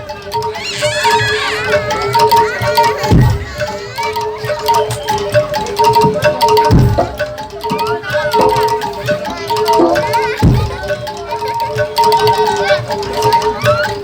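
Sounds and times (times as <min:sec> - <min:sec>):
metal-keyed instruments ringing: 0:00.0 - 0:14.0.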